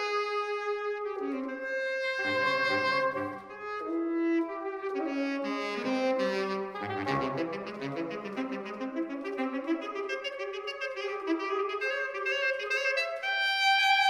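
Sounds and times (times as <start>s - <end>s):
saxophone quartet playing: 0.0s - 14.0s.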